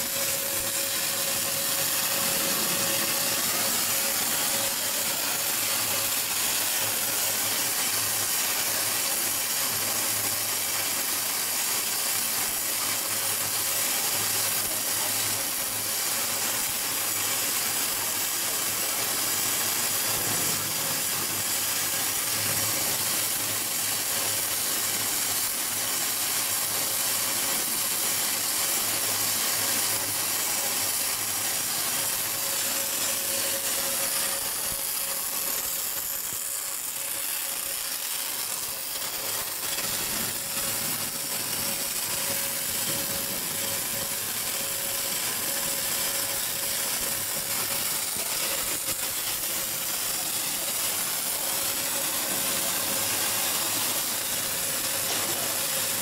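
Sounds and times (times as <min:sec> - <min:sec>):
welding arc crackling: 0:00.0 - 0:56.0.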